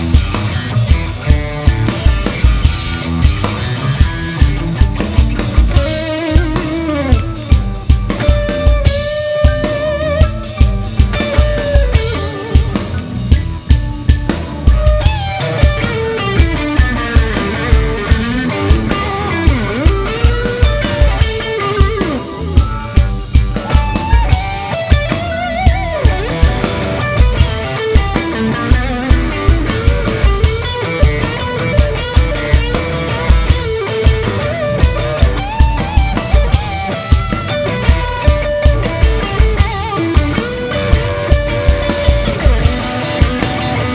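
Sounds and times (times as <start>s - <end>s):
bass guitar: 0.0s - 43.9s
drum kit heavy beat: 0.0s - 43.9s
electric guitar: 0.0s - 43.9s
guitar lead line bending pitch: 0.0s - 43.9s.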